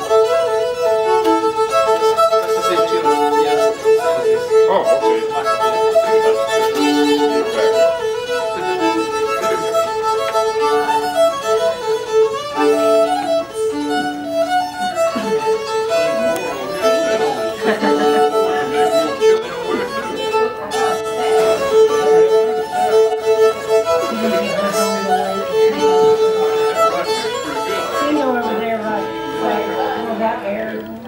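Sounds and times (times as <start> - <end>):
solo fiddle playing: 0.0 - 31.0.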